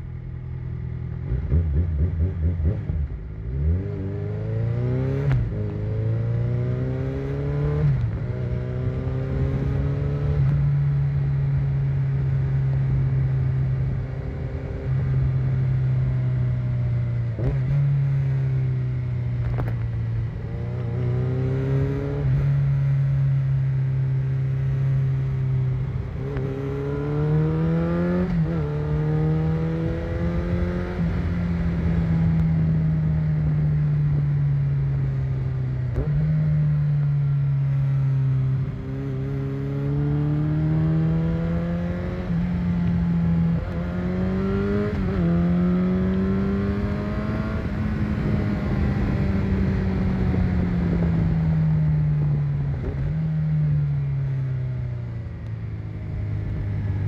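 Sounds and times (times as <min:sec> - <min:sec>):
motorcycle engine accelerating: 0:00.8 - 0:57.0.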